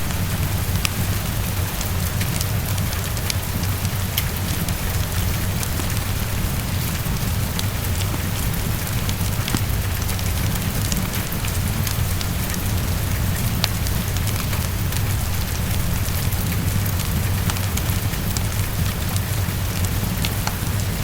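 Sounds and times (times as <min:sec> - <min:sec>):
fireplace fire crackling: 0:00.0 - 0:21.0
heavy rain on a window: 0:00.0 - 0:21.0.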